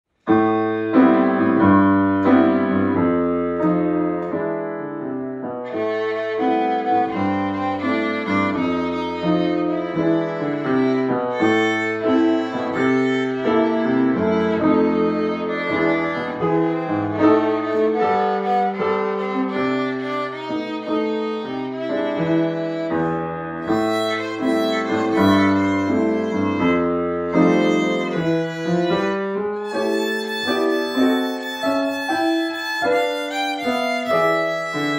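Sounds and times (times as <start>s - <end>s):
piano accompaniment: 0.1s - 34.9s
bowed violin: 0.3s - 4.4s, 5.0s - 34.9s.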